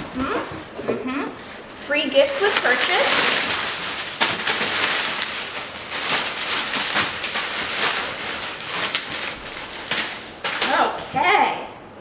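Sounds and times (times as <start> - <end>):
packing material crinkling: 1.4 - 11.3.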